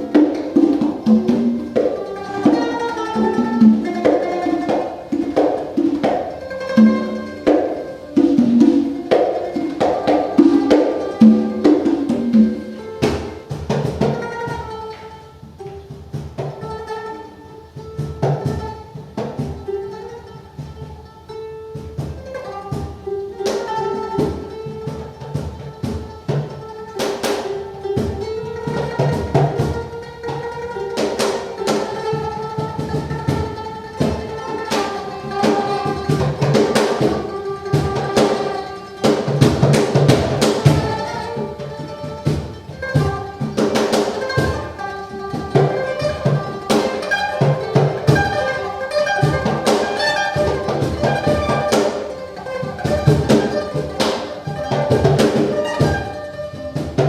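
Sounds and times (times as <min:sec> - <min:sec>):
congas: 0:00.0 - 0:57.0
plucked string instruments: 0:00.0 - 0:57.0.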